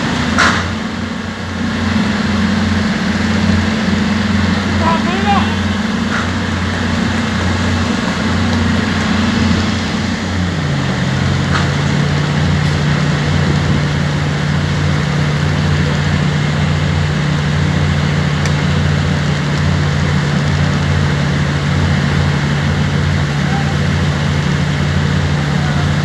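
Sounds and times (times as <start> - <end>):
engine hum: 0.0 - 26.0.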